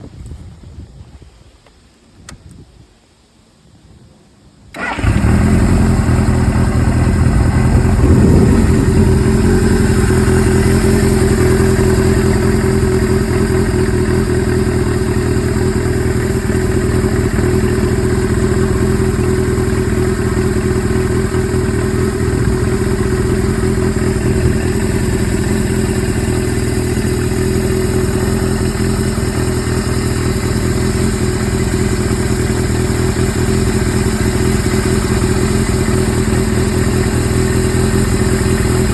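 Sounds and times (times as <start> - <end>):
motorcycle engine idling: 4.8 - 38.9.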